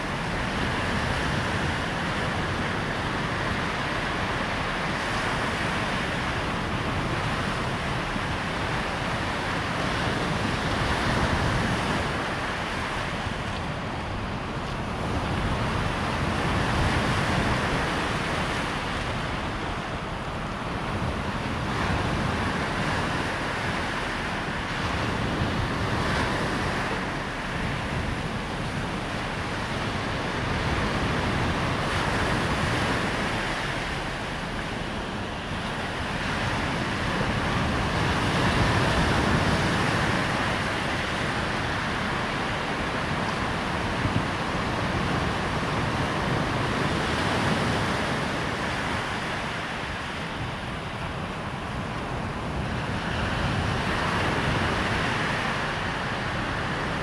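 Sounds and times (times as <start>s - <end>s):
waves breaking on sandy beach: 0.0s - 57.0s
wind on microphone: 0.0s - 57.0s.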